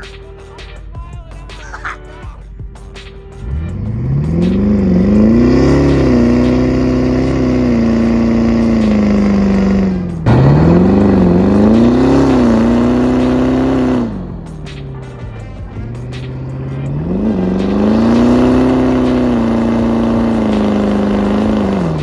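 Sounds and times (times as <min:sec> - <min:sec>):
diesel engine at full throttle: 0:03.3 - 0:22.0.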